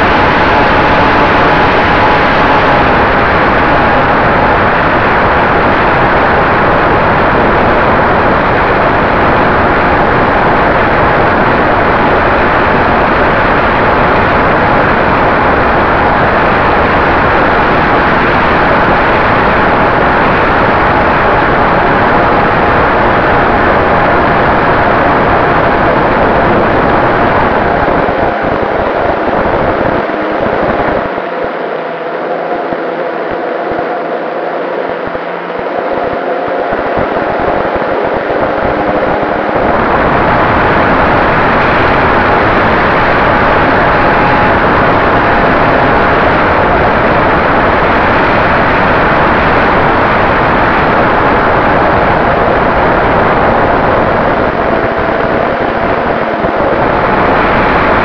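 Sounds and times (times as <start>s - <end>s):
faint steady whine: 0.0s - 58.0s
wind and propeller rush: 0.0s - 58.0s.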